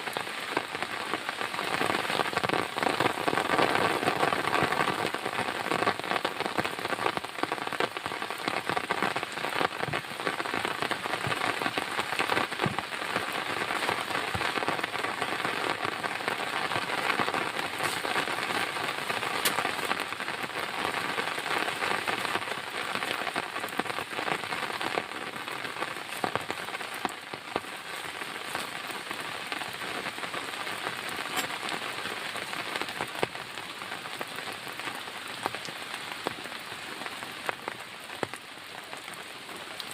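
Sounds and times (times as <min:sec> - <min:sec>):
heavy rain falling: 0:00.0 - 0:39.9
raindrops striking a surface: 0:00.0 - 0:39.9.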